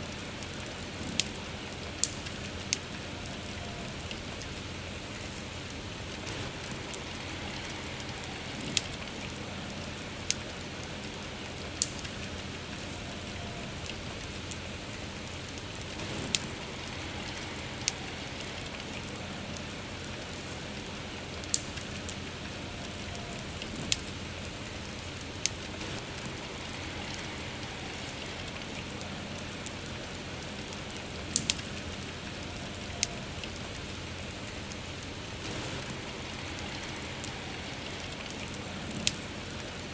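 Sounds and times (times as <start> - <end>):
burning wood popping: 0.0 - 39.9
campfire crackling: 0.0 - 39.9
soft rain: 0.0 - 39.9.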